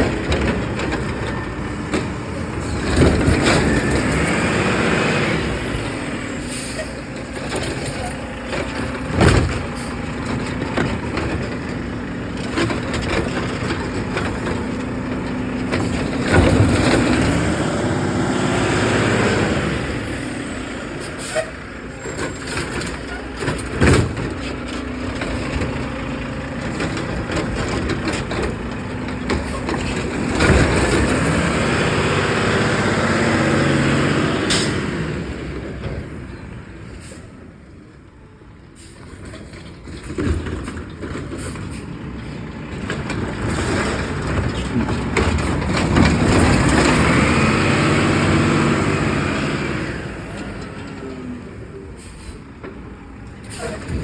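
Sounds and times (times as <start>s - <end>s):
truck engine revving: 0.0s - 37.0s, 39.8s - 54.0s.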